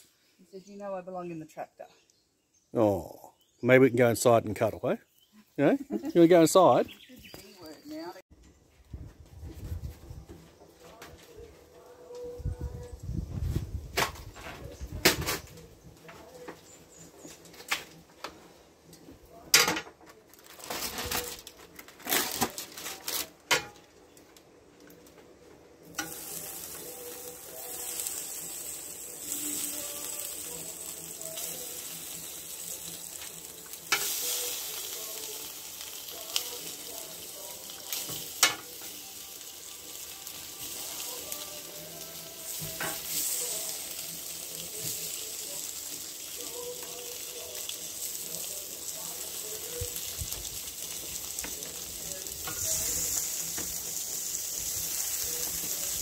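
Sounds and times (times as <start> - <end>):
sausages sizzling on grill: 2.5 - 8.2, 10.1 - 56.0.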